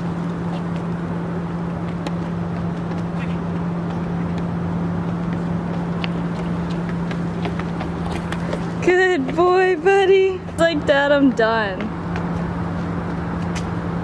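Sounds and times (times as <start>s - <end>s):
low mechanical hum: 0.0s - 14.0s
footsteps on concrete: 0.4s - 13.9s.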